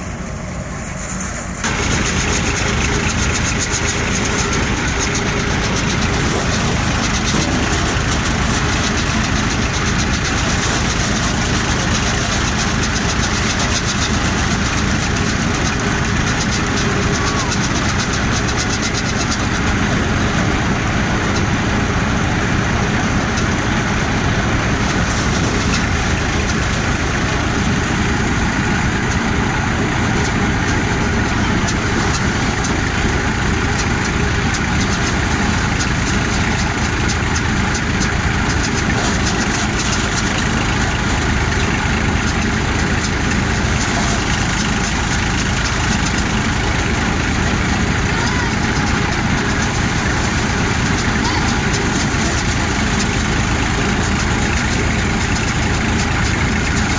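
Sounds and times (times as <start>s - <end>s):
thresher running: 0.0s - 56.9s
tractor engine running: 0.0s - 56.9s.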